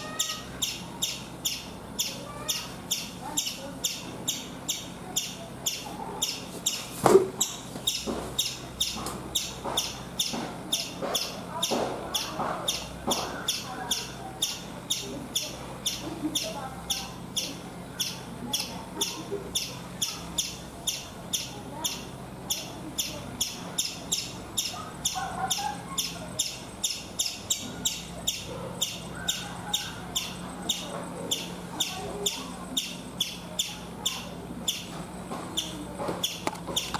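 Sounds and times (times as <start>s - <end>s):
squirrel chirping: 0.0s - 36.9s.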